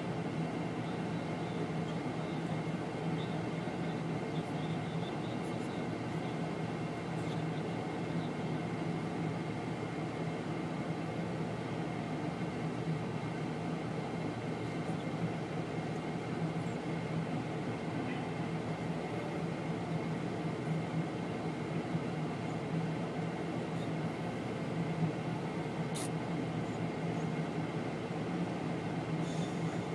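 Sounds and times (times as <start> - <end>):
constant low hum: 0.0 - 29.9
heavy equipment diesel engines: 0.0 - 29.9.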